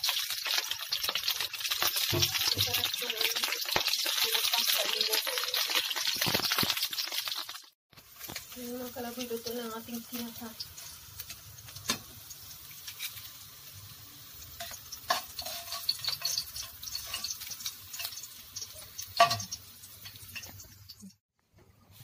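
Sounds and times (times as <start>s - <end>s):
hot oil sizzling in a wok: 0.0s - 21.2s.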